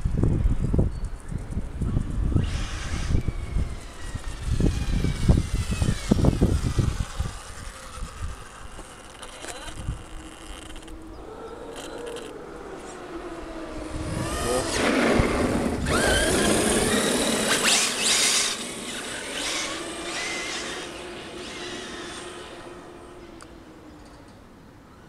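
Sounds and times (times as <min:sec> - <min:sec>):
rc car motor whining: 0:01.9 - 0:24.2.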